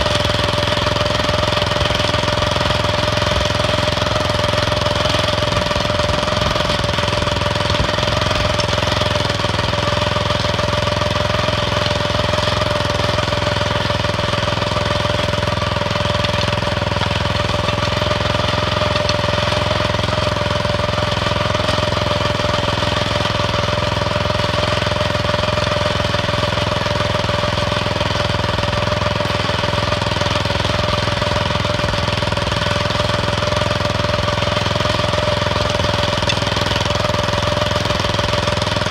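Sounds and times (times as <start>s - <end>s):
small tractor engine droning: 0.0s - 38.9s.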